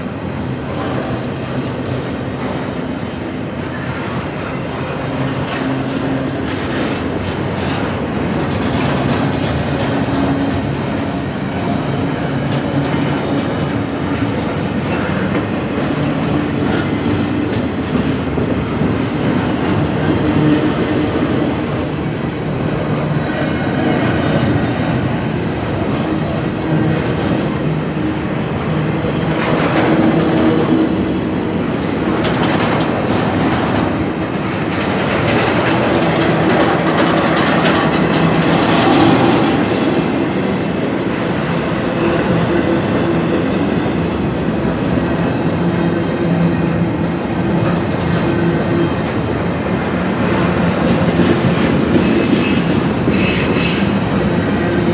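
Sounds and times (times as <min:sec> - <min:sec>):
train wheels clacking on rails: 0:00.0 - 0:54.9.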